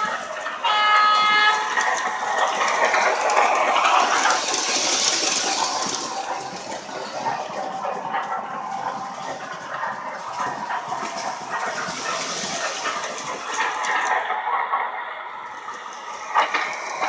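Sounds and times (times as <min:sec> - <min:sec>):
model train running noise: 0:00.0 - 0:17.0.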